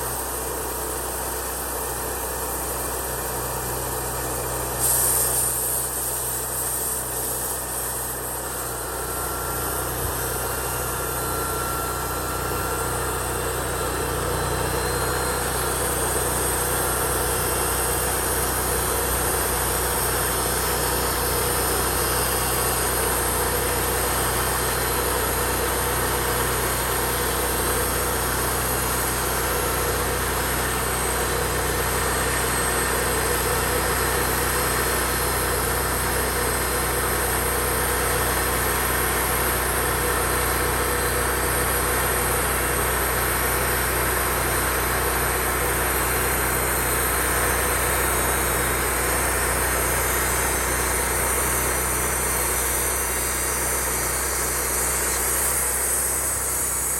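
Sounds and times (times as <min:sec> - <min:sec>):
engine running steadily: 0:00.0 - 0:56.9.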